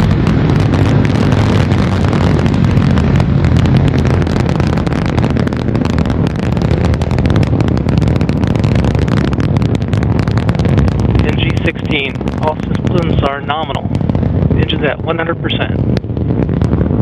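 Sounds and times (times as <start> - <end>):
rocket engines rumbling and crackling: 0.0 - 17.0.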